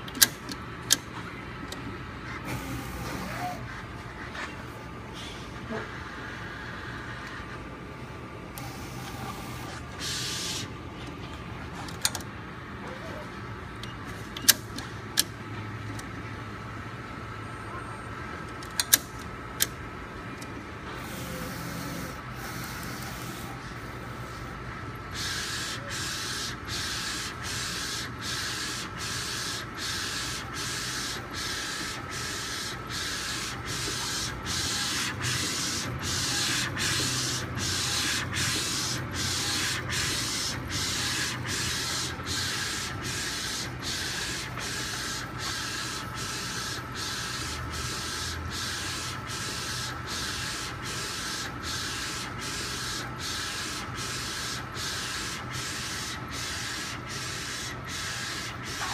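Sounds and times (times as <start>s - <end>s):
printer carriage whirring: 0.0s - 58.9s.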